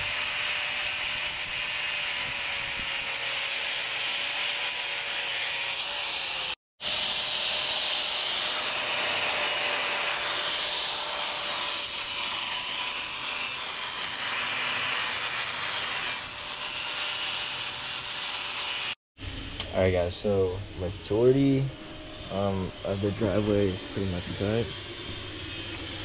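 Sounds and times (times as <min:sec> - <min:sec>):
angle grinder cutting concrete: 0:00.0 - 0:19.0, 0:21.1 - 0:26.0.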